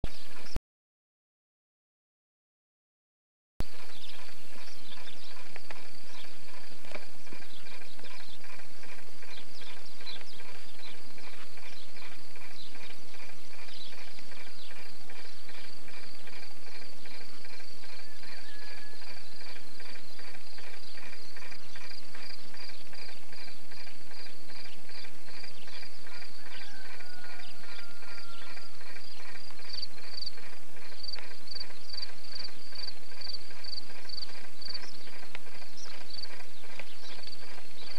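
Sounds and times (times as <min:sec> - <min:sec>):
bird chirps: 0:03.6 - 0:37.9
insects chirping: 0:03.7 - 0:37.9.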